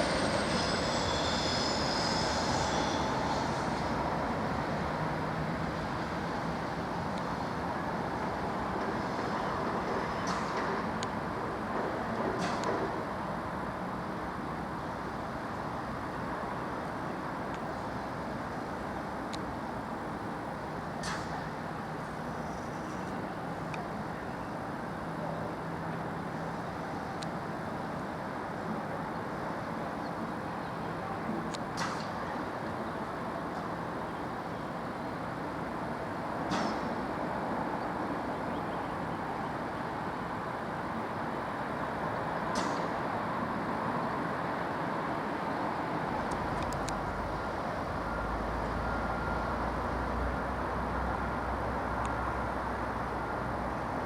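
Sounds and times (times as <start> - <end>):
steady vehicle noise: 0.0 - 54.0.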